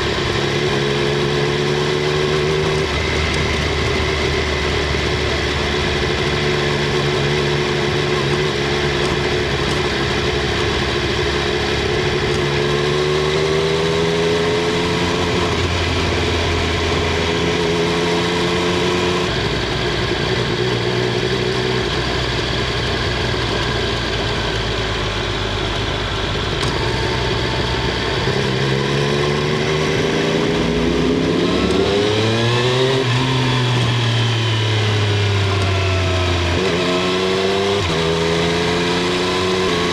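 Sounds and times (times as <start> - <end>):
motorcycle engine and exhaust: 0.0 - 39.9
road noise: 0.0 - 39.9.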